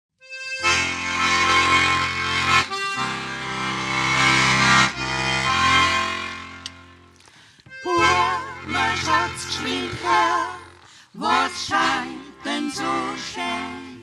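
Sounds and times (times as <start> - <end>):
accordion chords: 0.2 - 14.0.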